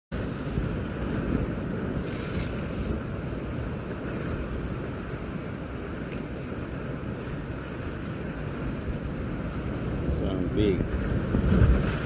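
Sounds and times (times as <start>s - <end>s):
storm surf waves: 0.1s - 12.0s
wind buffeting microphone: 0.2s - 12.0s.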